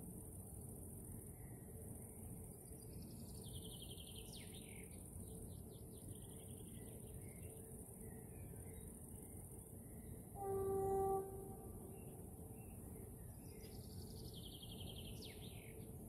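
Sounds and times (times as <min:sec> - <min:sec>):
songbird chirping trills: 0:01.2 - 0:16.0.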